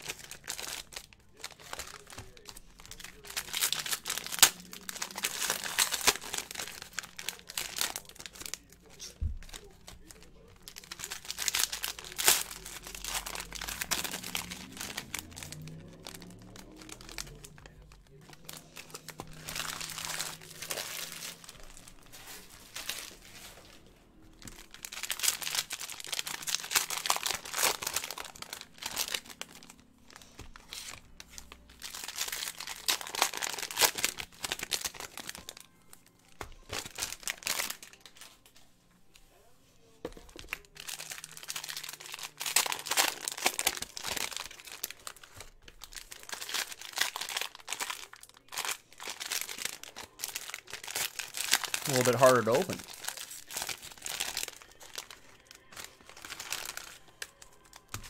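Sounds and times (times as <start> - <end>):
card pack wrappers crinkling: 0.0 - 38.5, 40.0 - 58.0.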